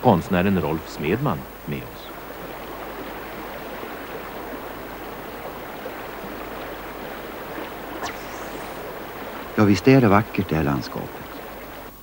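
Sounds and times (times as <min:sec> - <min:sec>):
river water rushing over riffle: 0:00.0 - 0:12.0.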